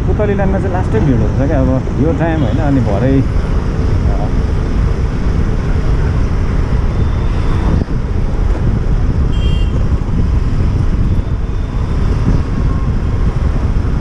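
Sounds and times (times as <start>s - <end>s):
motorbike rumble: 0.0s - 14.0s
street traffic: 0.0s - 14.0s
wind buffeting microphone: 0.0s - 14.0s.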